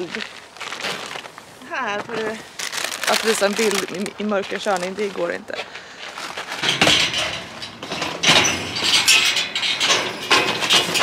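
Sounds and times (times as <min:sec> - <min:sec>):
objects clattering and rustling: 0:00.0 - 0:11.0.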